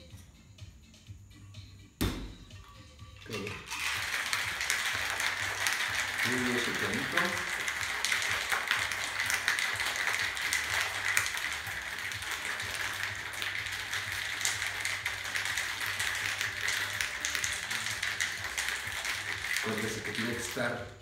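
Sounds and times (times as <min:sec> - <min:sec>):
ice rattling in cocktail shaker: 0:03.2 - 0:21.0.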